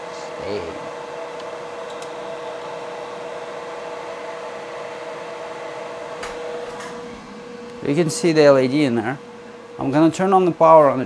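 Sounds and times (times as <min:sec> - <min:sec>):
machine hum with steady tone: 0:00.0 - 0:11.0.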